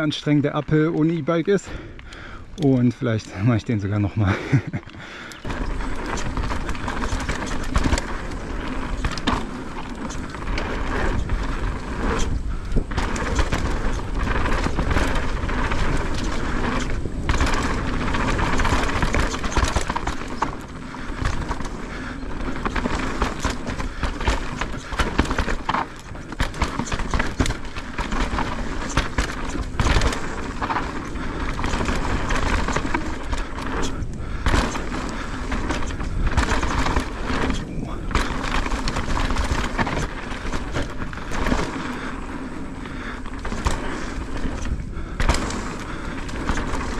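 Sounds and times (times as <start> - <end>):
bike tyres rolling over dirt: 0.0 - 46.9
bike knocks and rattles: 4.2 - 46.9.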